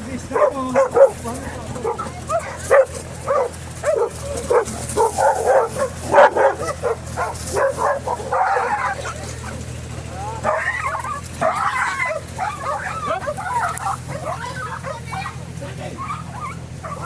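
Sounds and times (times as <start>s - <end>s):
dogs barking fiercely: 0.0s - 17.0s.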